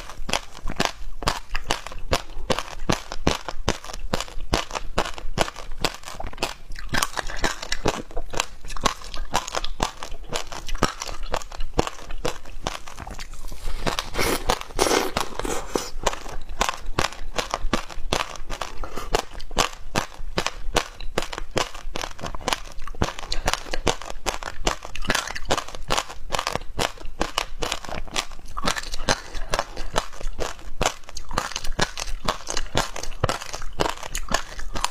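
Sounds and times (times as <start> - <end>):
chewing shaved ice crunching: 0.0 - 34.9.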